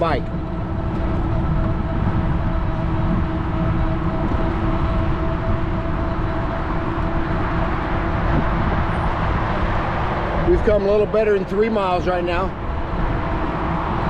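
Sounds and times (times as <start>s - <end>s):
electric bike whine: 0.0s - 14.0s
wind rumble on microphone: 0.0s - 14.0s.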